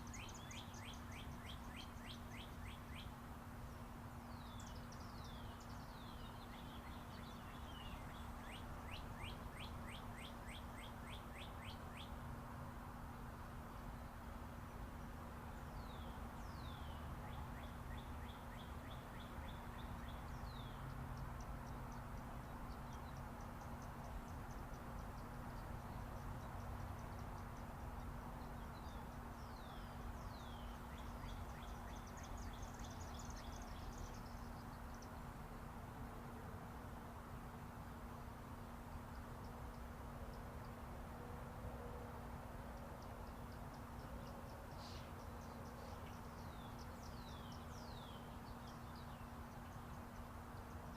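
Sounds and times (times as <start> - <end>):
distant highway traffic hum: 0.0 - 50.9
songbirds chirping and trilling: 0.0 - 50.9.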